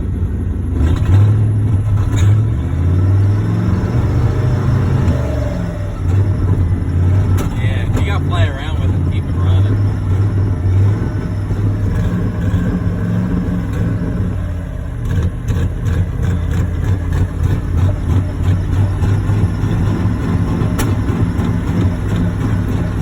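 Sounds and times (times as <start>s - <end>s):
engine running unevenly: 0.0s - 23.0s.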